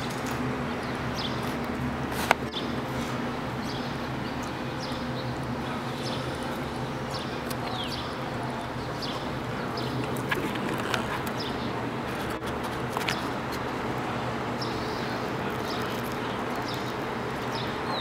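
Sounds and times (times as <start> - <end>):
city background hum: 0.0 - 18.0.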